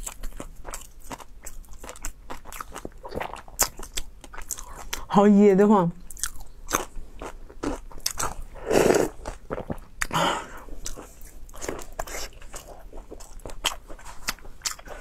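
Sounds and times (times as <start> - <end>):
sausage being chewed: 0.0 - 5.1, 6.1 - 15.0.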